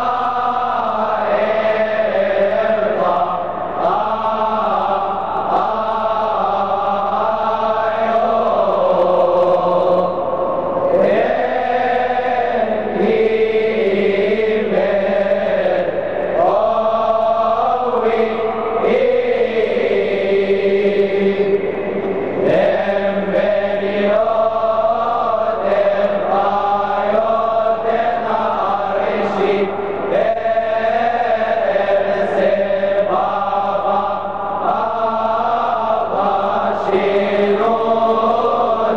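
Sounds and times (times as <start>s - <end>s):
male choir chanting a hymn: 0.0s - 38.9s.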